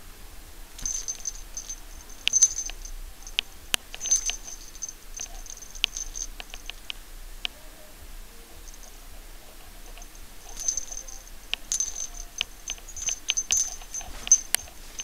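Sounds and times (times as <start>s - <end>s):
collar bell jingling: 0.8s - 7.6s, 8.4s - 15.0s.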